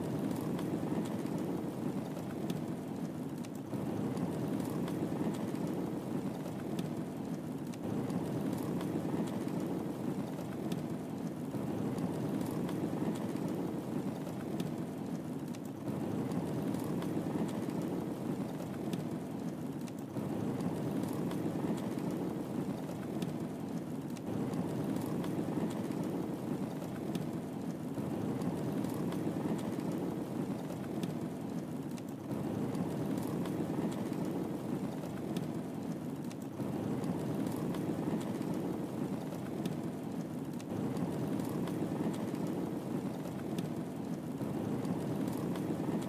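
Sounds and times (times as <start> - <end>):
fire crackling pops: 0.0 - 46.0
flames rushing: 0.0 - 46.0.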